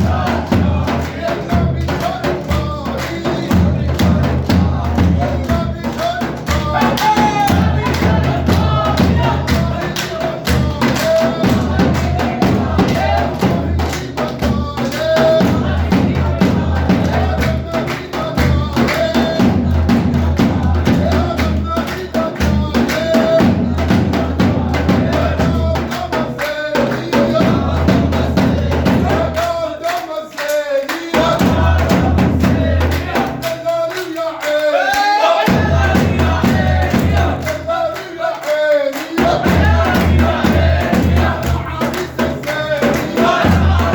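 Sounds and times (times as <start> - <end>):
heavy steady drumbeats: 0.0 - 43.9
man singing a folk chant: 0.0 - 43.9.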